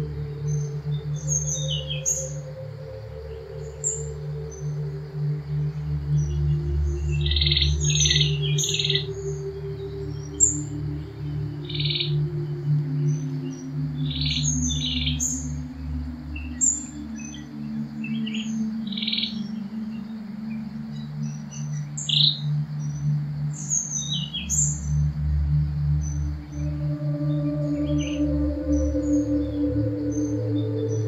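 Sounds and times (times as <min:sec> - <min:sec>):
ambient music drone: 0:00.0 - 0:31.0
birds chirping: 0:00.0 - 0:31.0.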